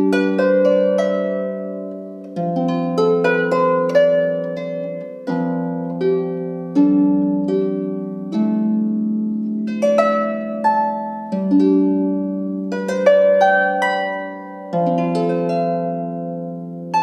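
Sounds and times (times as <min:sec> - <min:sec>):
harp melody: 0:00.0 - 0:17.0.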